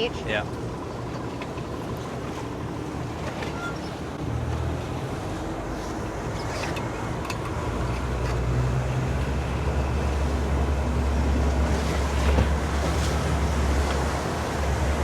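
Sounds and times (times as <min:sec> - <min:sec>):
motorboat engine drone: 0:00.0 - 0:15.0
water rushing: 0:00.0 - 0:15.0.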